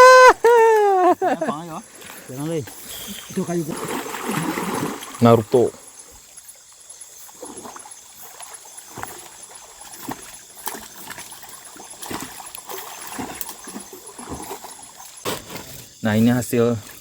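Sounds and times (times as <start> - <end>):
river water splashing: 0.8 - 16.0.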